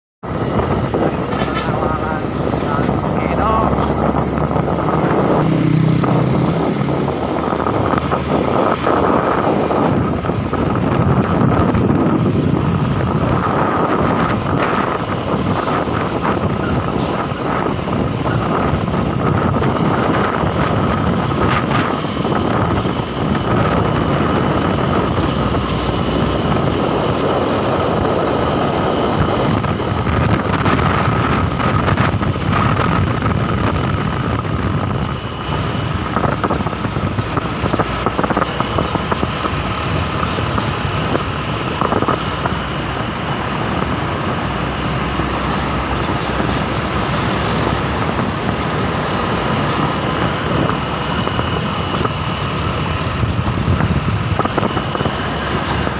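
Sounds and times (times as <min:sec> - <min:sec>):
constant high whine: 0:00.2 - 0:55.9
highway traffic noise: 0:00.2 - 0:55.9.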